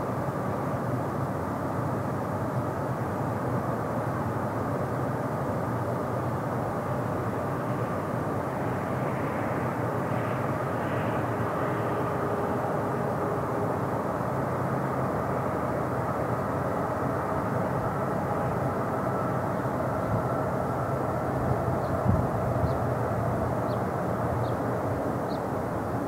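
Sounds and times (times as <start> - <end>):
freight train locomotives droning: 0.0 - 26.0.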